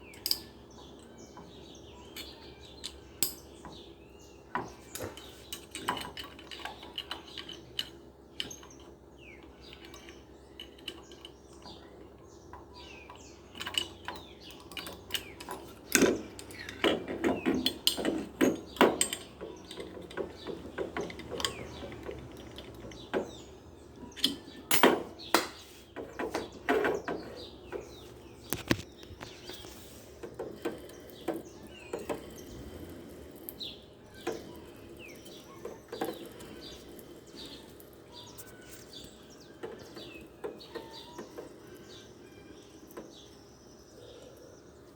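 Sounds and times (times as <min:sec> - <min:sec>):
metal parts and tools clinking: 0:00.0 - 0:03.9, 0:04.5 - 0:43.4.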